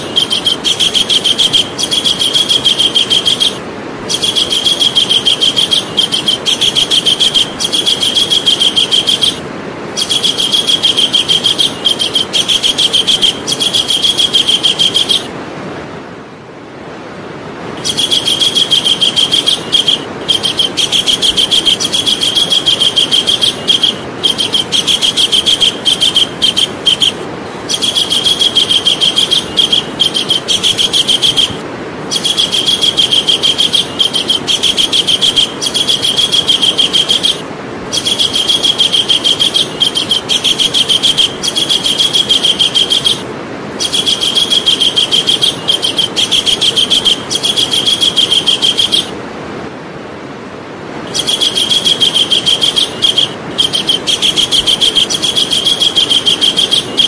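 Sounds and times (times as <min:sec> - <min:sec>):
kingfisher calling: 0:00.0 - 0:15.3, 0:17.8 - 0:49.2, 0:51.1 - 0:57.0.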